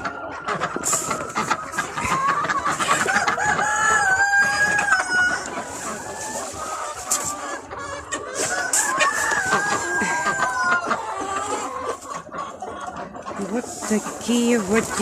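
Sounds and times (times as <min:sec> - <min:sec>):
chickens clucking: 0:00.0 - 0:15.0
roosters crowing: 0:00.0 - 0:15.0.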